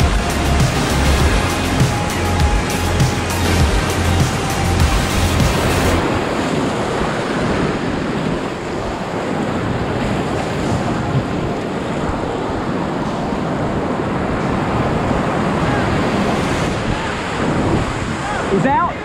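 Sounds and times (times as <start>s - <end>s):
whitewater rushing: 0.0s - 19.0s.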